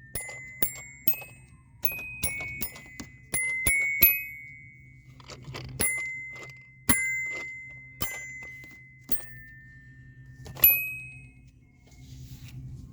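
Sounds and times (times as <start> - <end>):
small bell ringing when struck: 0.0 - 11.5.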